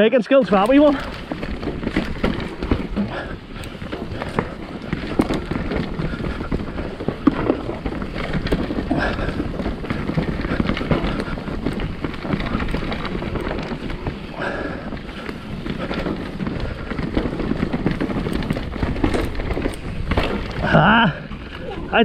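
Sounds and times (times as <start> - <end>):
bike rattling and knocking: 0.0 - 22.0
tyres on dirt and rocks: 0.0 - 22.0.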